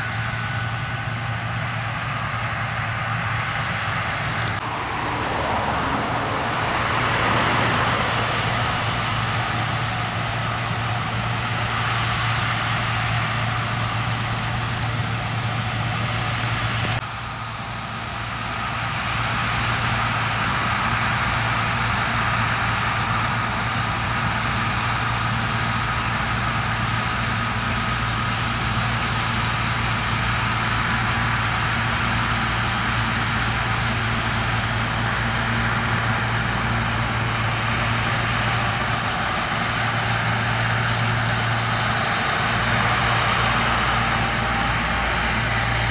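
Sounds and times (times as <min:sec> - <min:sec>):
combine harvester engine hum: 0:00.0 - 0:45.9.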